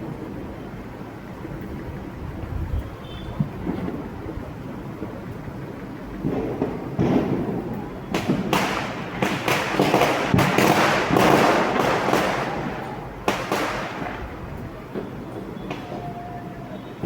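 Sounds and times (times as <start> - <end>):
firecrackers crackling: 0.0 - 17.0
fireworks bangs and booms: 0.0 - 17.0.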